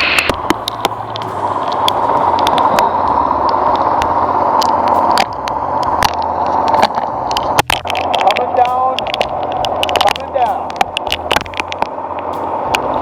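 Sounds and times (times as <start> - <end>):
boat motor humming: 0.0 - 13.0
heavy rain hissing: 0.0 - 13.0
raindrops ticking close by: 0.2 - 13.0.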